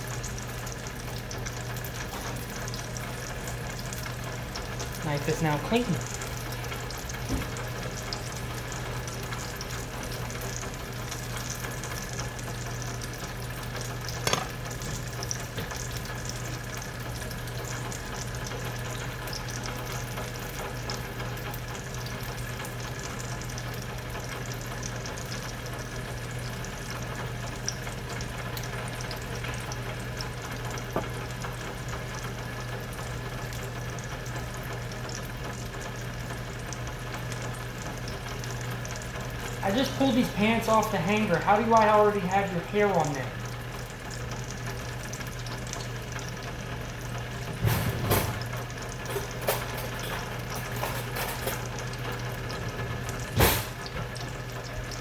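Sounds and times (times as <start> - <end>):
food sizzling on stove: 0.0 - 55.0.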